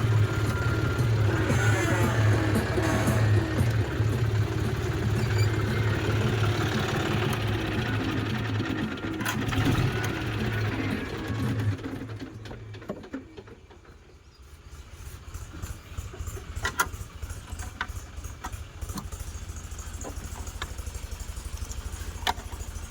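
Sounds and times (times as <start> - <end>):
tractor diesel engine idling: 0.0 - 22.9.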